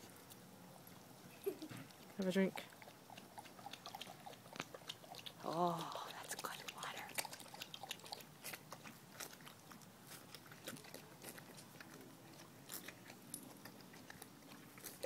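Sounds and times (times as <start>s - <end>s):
dog lapping water: 1.9s - 15.0s.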